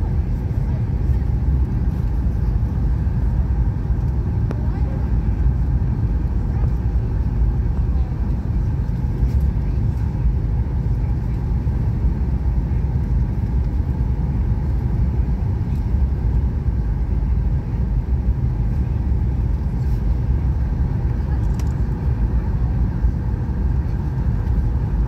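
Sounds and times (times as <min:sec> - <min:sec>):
airliner cabin engine rumble: 0:00.0 - 0:25.0.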